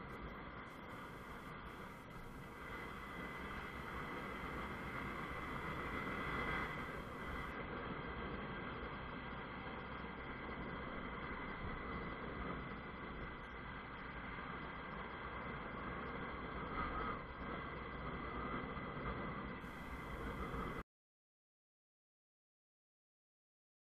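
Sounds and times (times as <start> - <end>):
wind and road rush: 0.0 - 20.8.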